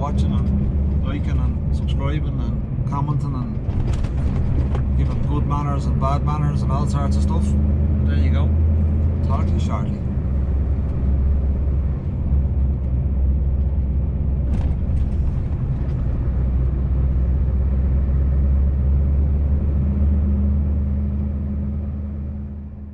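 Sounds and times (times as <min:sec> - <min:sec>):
truck engine droning: 0:00.0 - 0:22.9.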